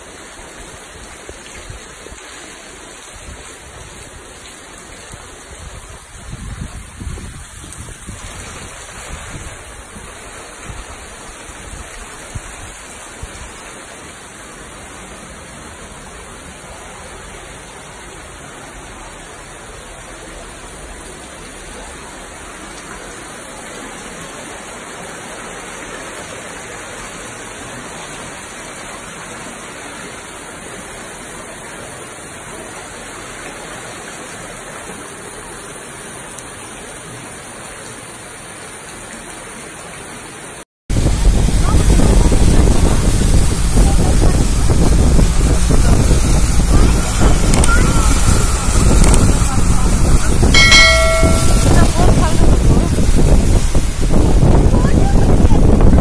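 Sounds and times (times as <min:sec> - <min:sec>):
flowing floodwater: 0:00.0 - 0:56.0
heavy rain: 0:00.0 - 0:56.0.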